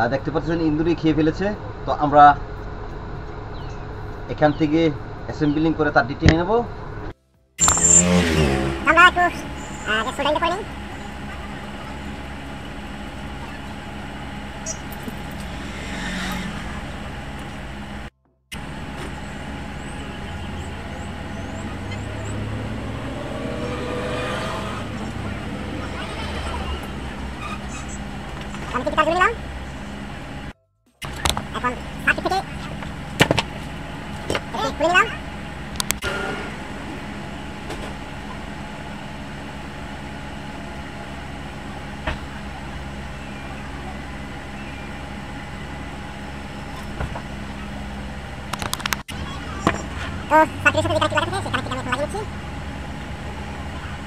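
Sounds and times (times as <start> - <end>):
low traffic-like rumble: 0.0 - 54.0.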